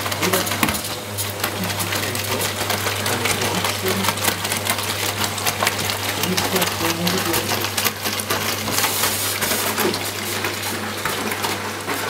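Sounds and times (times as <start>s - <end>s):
washer-dryer running: 0.0s - 12.0s.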